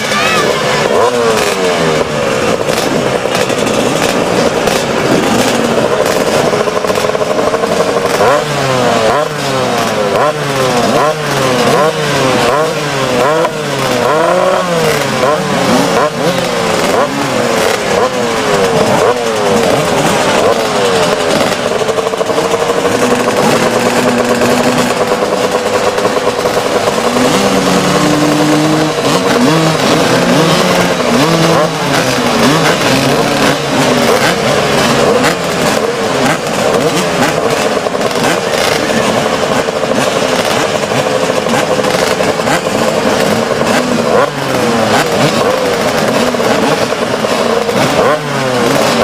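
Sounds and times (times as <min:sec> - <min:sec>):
motocross bikes revving: 0:00.0 - 0:49.0.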